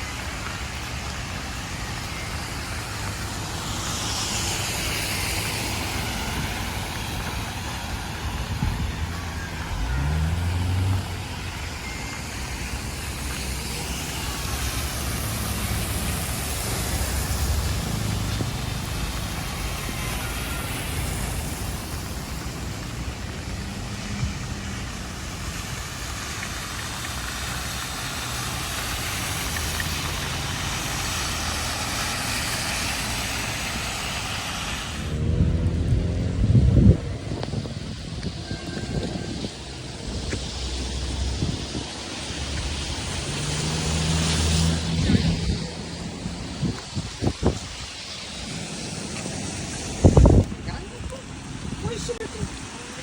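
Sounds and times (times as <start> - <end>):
passing vehicles rumbling: 0.0 - 53.0
rain and tyres hissing on wet road: 0.0 - 53.0.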